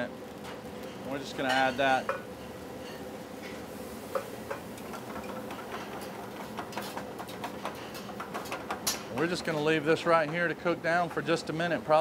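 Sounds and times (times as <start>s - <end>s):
meat sizzling in a skillet: 0.0s - 10.2s.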